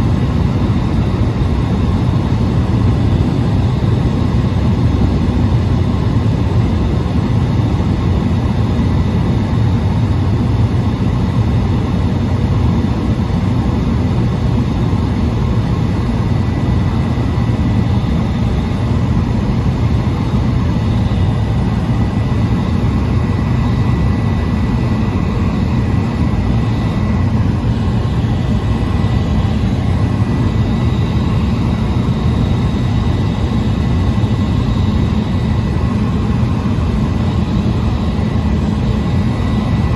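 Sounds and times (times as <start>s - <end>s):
faint high whine: 0.0s - 39.9s
propeller engine drone: 0.0s - 39.9s.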